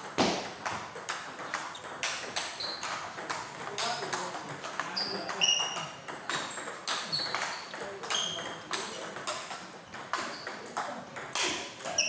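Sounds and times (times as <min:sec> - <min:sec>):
table tennis ball clicking: 0:00.1 - 0:12.0.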